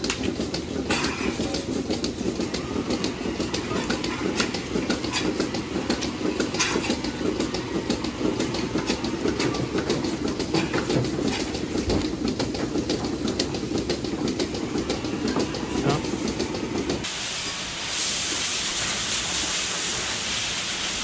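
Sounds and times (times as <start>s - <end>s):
milking unit clicks and hisses: 0.0s - 21.0s.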